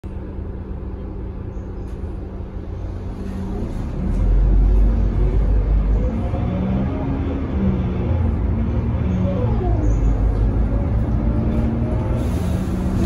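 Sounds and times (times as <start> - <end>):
bus engine rumble: 0.0 - 13.0
drivetrain whine: 0.0 - 13.0.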